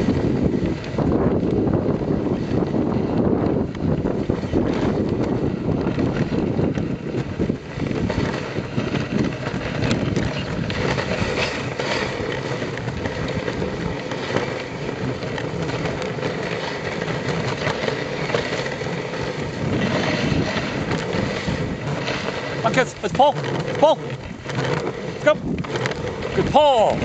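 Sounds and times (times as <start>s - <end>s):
sled sliding over snow: 0.0s - 27.0s.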